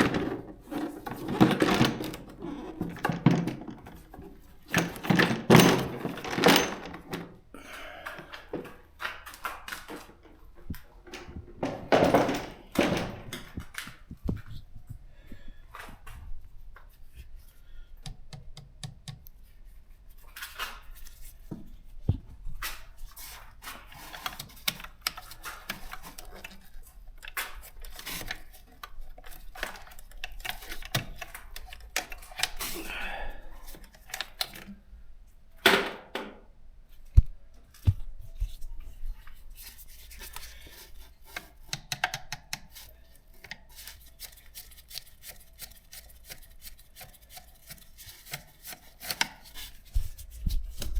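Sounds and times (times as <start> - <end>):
hands and tools clicking and rustling: 0.0 - 17.1, 20.2 - 34.9, 37.1 - 50.9.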